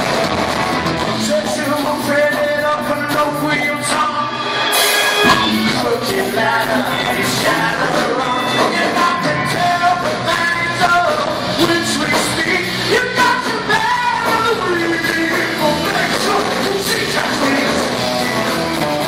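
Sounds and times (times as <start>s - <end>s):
drums: 0.0s - 19.0s
electric guitars: 0.0s - 19.0s
person singing: 1.1s - 19.0s.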